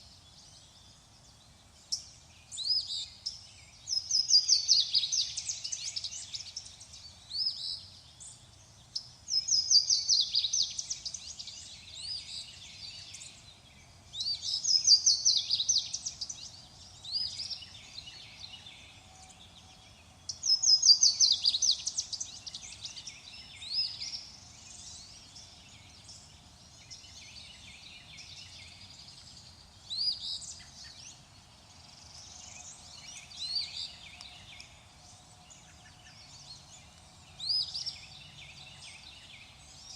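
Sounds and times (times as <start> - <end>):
bird chirps: 0.0 - 39.9
songbird singing: 0.0 - 39.9.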